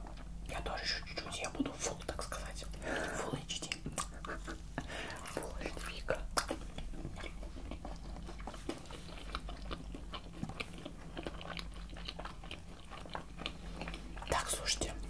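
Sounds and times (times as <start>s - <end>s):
person chewing food: 0.0s - 0.6s, 1.2s - 15.0s.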